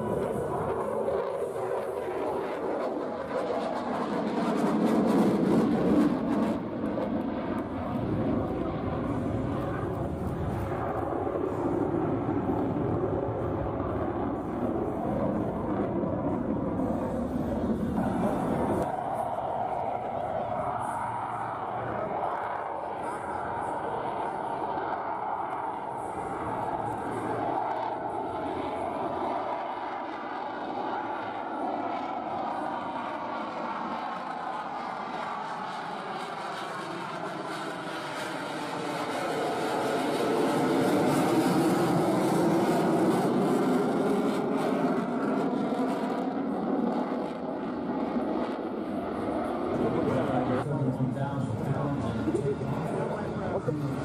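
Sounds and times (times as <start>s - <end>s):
fighter jet engines roaring: 0.0s - 54.0s.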